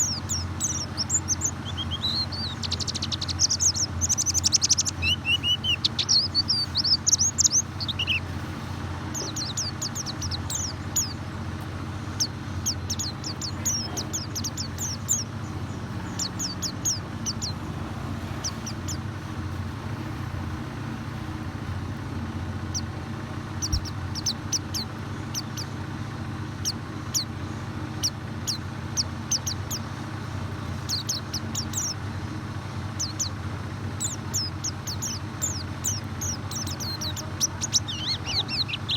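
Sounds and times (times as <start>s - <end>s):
small bird chirping: 0.0s - 19.9s, 22.6s - 38.9s
steady low hum: 0.0s - 38.9s.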